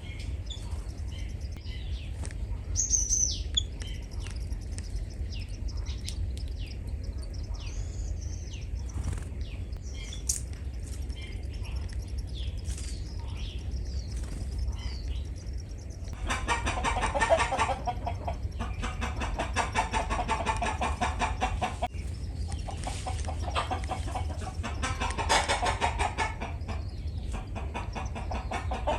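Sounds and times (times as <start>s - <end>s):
birds calling: 0.0s - 28.9s
steady low rumble: 0.0s - 28.9s.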